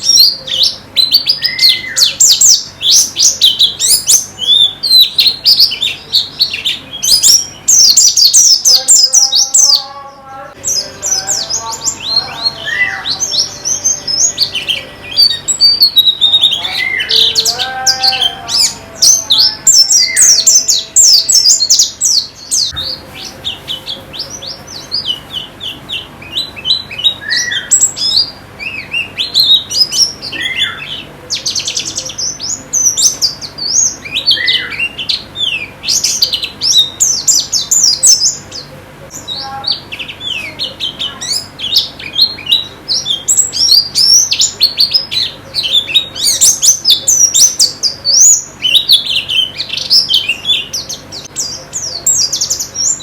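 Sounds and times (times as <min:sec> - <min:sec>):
small birds chirping and twittering: 0:00.0 - 0:53.0.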